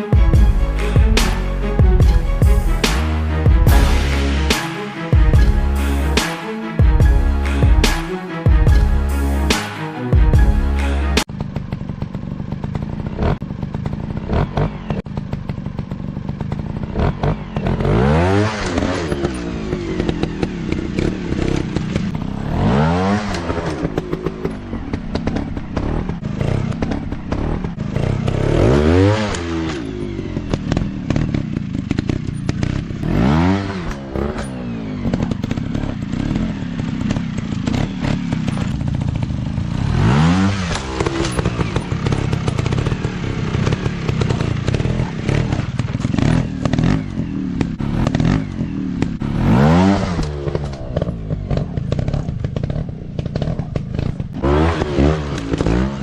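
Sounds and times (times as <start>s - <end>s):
dirt bike engines revving: 10.7s - 56.0s.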